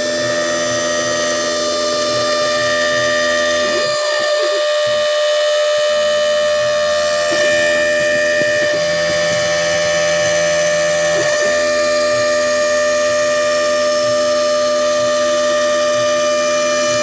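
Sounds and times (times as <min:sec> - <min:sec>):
router spindle milling metal: 0:00.0 - 0:17.0.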